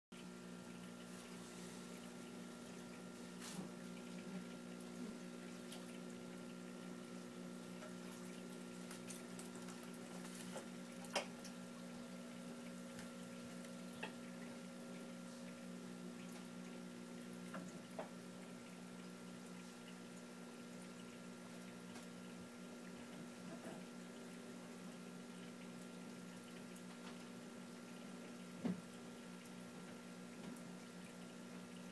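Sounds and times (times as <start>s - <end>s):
aquarium pump hum: 0.2s - 31.9s
water bubbling and trickling: 0.2s - 31.9s.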